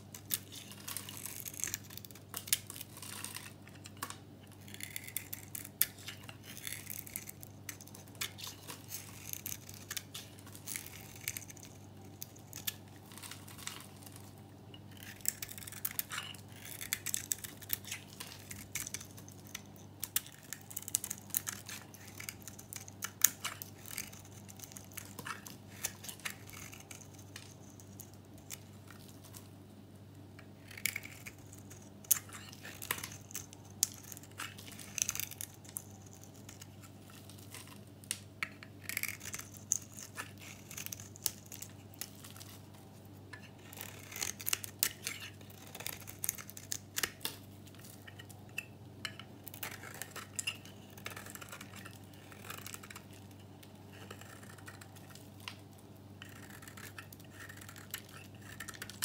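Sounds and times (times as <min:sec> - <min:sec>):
knife blade shaving soap: 0:00.1 - 0:29.4, 0:30.4 - 0:37.8, 0:38.4 - 0:42.6, 0:43.3 - 0:55.6, 0:56.2 - 0:59.0.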